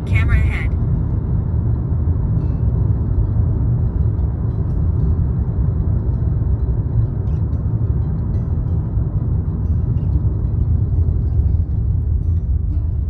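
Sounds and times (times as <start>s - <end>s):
car tyre and engine rumble: 0.0s - 13.0s.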